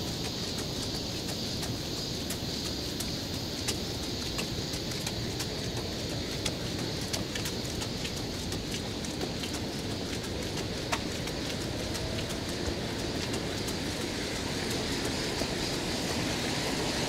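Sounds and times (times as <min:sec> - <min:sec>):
sharp ticks: 0:00.0 - 0:16.4
city street rumble: 0:00.0 - 0:17.0.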